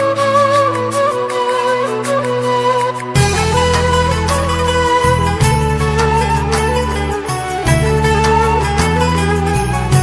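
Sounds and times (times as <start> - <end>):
sustained melody line: 0.0 - 10.0.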